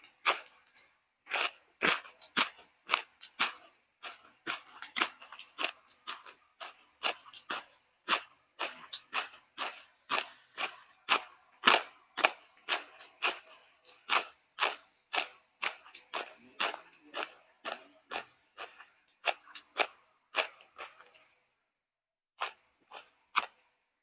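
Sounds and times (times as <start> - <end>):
pestle pounding in a mortar: 0.0 - 21.4, 22.4 - 23.7.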